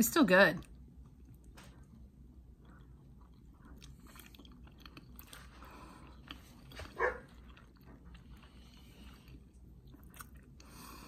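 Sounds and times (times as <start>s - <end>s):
people chewing: 1.1s - 11.0s.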